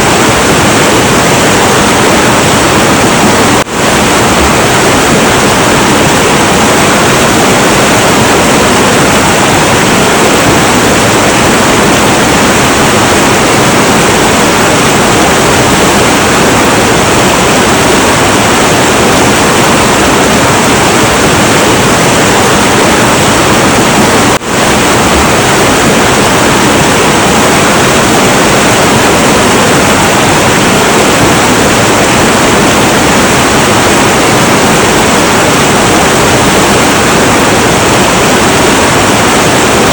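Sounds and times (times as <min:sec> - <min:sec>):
turbulent river water roaring: 0:00.0 - 0:39.9.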